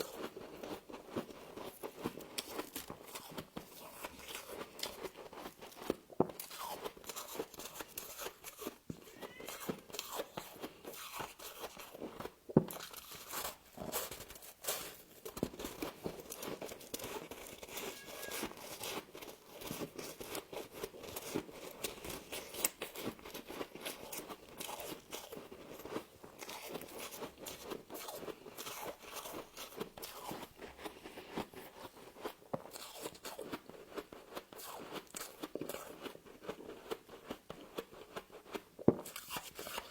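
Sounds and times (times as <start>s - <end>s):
frost being chewed: 0.0s - 39.9s.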